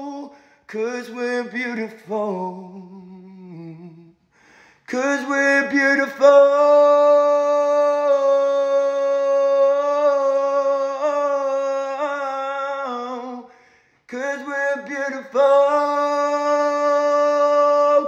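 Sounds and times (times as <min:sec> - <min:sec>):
man singing unaccompanied: 0:00.0 - 0:04.1, 0:04.8 - 0:18.0.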